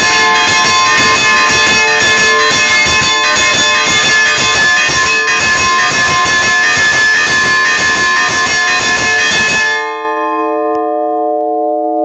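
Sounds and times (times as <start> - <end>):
church bells ringing rapidly: 0.0 - 12.0.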